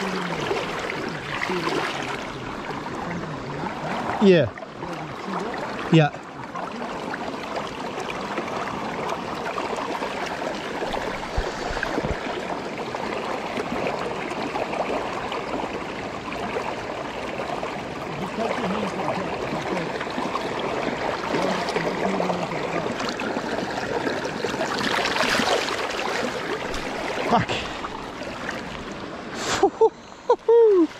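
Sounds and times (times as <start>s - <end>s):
flowing water rushing: 0.0s - 30.9s.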